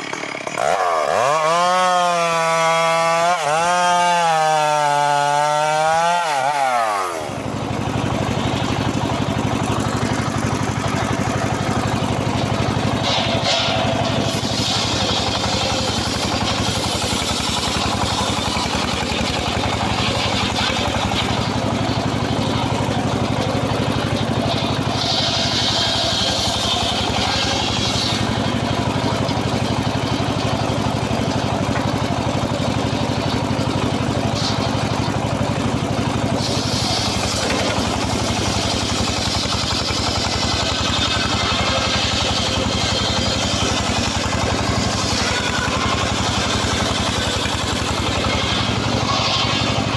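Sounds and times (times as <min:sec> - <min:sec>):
small saw engine running: 0:00.0 - 0:49.9.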